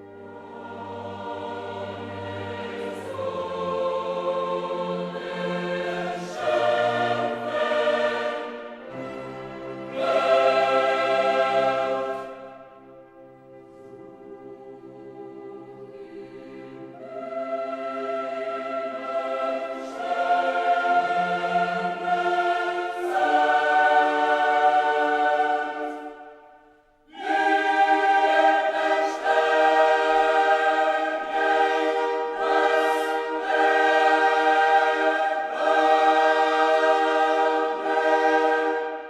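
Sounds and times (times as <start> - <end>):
choir singing sustained chords: 0.0 - 39.0.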